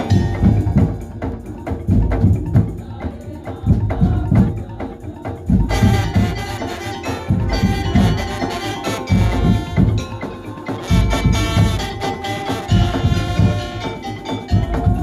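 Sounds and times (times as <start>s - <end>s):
band with melodic instruments: 0.0s - 3.2s, 3.8s - 15.0s
wooden slit drums clacking: 0.0s - 15.0s.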